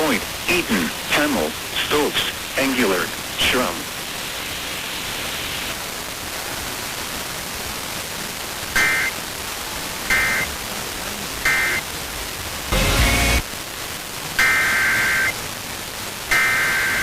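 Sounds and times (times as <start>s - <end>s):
steady radio hiss: 0.0s - 17.0s.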